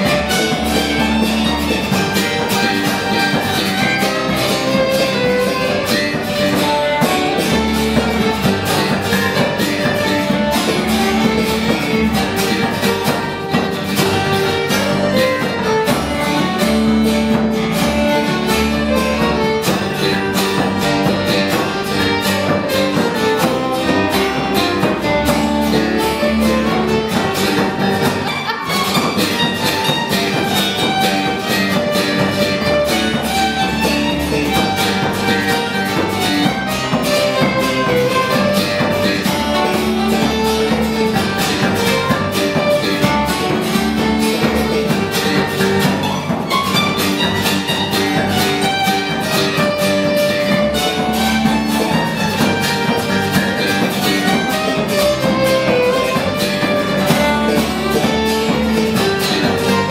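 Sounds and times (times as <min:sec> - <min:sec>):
fiddle playing tune: 0:00.0 - 0:59.9
frame drum steady beat: 0:00.0 - 0:59.9
plucked strings: 0:00.0 - 0:59.9
strummed acoustic guitar: 0:00.0 - 0:59.9.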